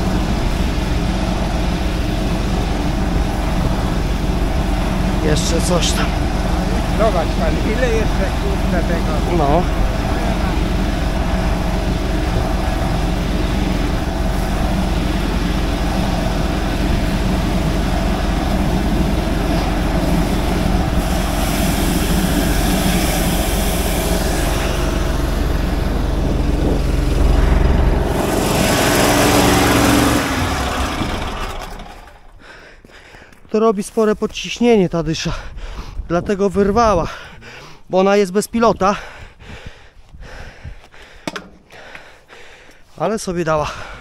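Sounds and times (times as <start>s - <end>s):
sewer jetter pump droning: 0.0s - 33.5s, 40.6s - 44.0s.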